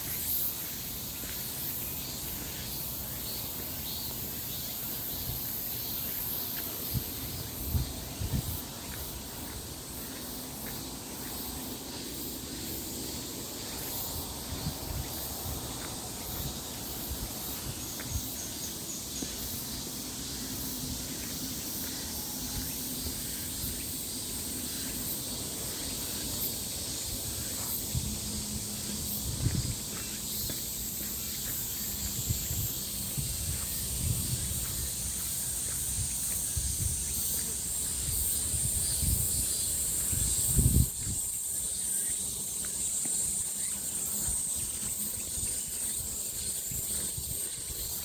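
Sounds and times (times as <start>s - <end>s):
high-pitched hiss: 0.0s - 48.0s.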